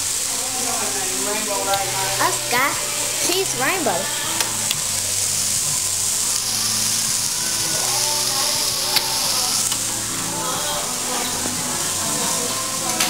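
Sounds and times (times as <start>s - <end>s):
food sizzling in a frying pan: 0.0s - 13.0s
song playing: 0.0s - 13.0s.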